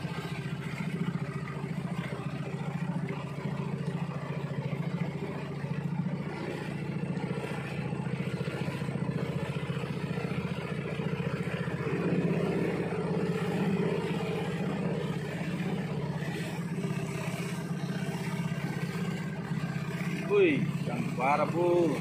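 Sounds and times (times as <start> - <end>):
boat engine throbbing: 0.0 - 22.0.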